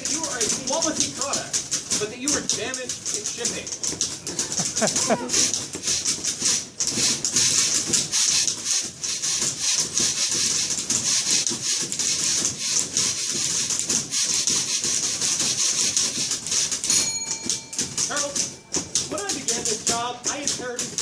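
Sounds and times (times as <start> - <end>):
manual typewriters clattering: 0.0 - 21.0.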